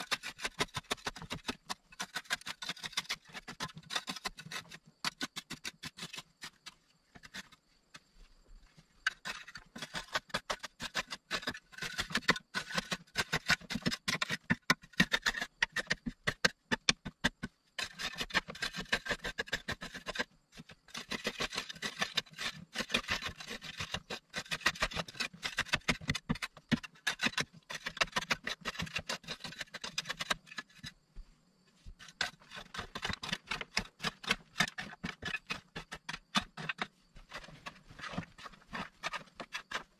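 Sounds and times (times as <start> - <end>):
hand hoe scraping earth wall: 0.0 - 39.9.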